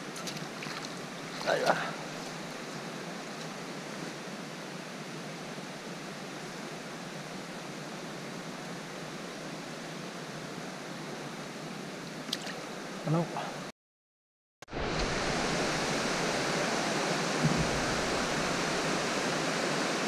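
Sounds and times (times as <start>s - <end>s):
flowing river water: 0.0s - 13.7s, 14.7s - 20.0s.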